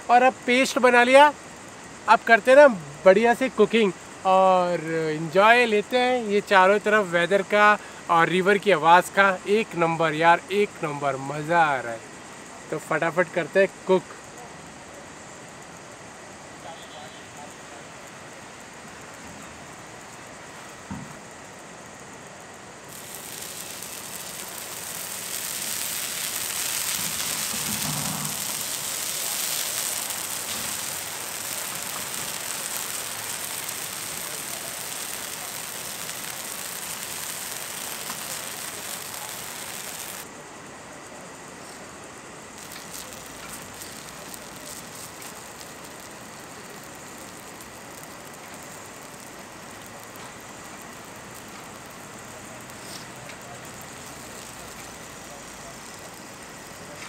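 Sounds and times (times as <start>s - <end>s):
batter sizzling on a griddle: 0.0s - 57.0s.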